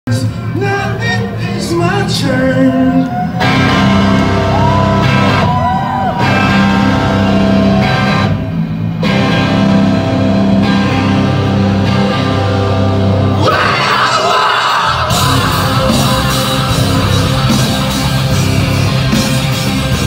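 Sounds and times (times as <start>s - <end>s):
distorted electric guitar: 0.1s - 20.0s
live rock band playing: 0.1s - 20.0s.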